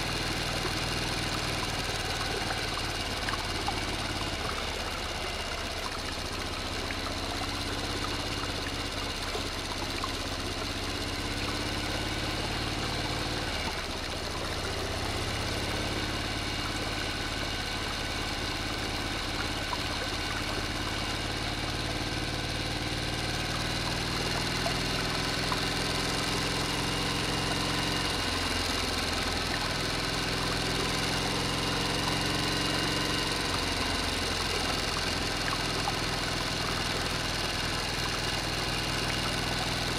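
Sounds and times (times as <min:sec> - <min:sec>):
water pump motor humming: 0:00.0 - 0:39.9.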